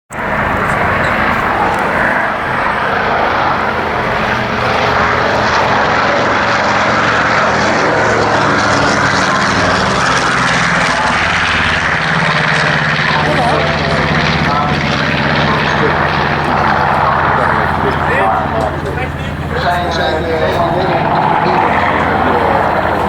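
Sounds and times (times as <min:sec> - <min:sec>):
propeller aircraft engines droning: 0:00.1 - 0:23.0.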